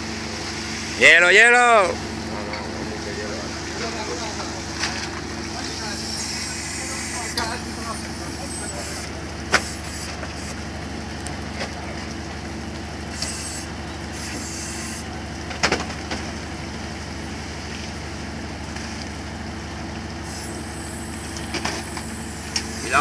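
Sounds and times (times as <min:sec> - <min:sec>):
boat engine droning: 0:00.0 - 0:15.5, 0:16.6 - 0:23.0.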